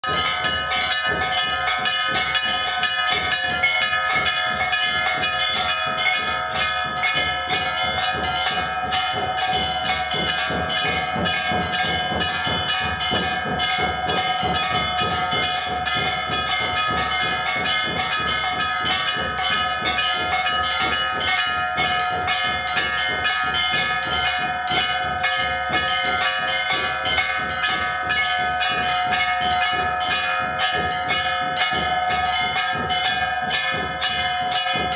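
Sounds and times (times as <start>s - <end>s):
temple bells ringing rapidly: 0.0s - 34.9s.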